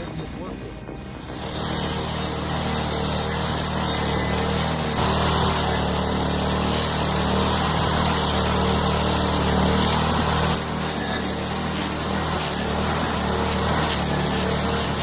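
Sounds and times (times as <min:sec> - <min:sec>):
stump grinder engine running: 0:00.0 - 0:15.0.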